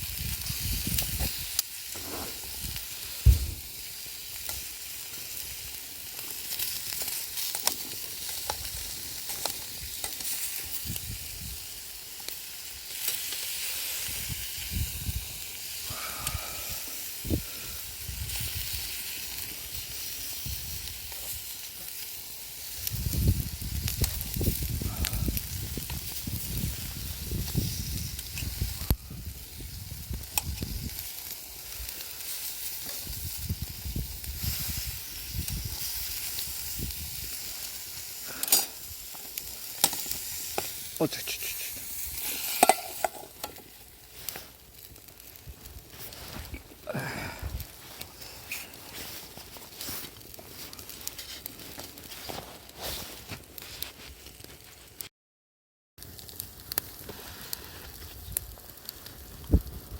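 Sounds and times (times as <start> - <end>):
food sizzling over a campfire: 0.0 - 55.1, 56.0 - 59.9.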